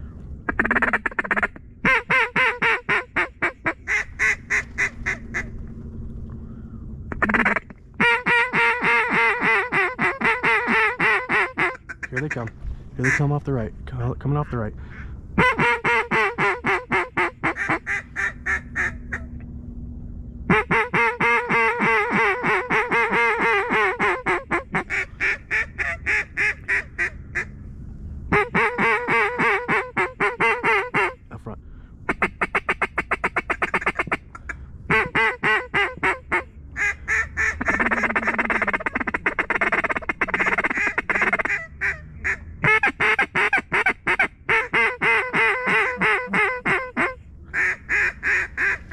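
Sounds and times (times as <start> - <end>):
duck call quacking: 0.5 - 5.5, 7.1 - 13.3, 14.9 - 19.3, 20.5 - 27.5, 28.3 - 31.2, 32.1 - 48.9.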